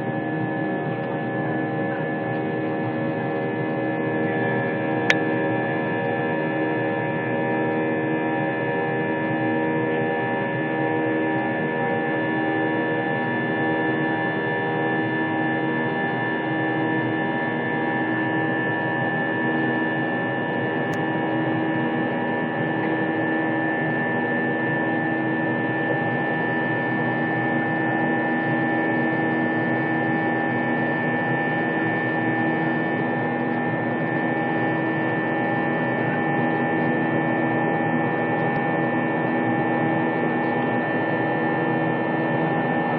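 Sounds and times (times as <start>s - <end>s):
jet engines droning in cabin: 0.0s - 42.9s.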